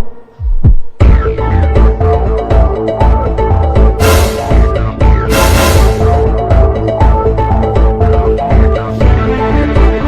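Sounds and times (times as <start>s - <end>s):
background music with bass beat: 0.4s - 10.0s.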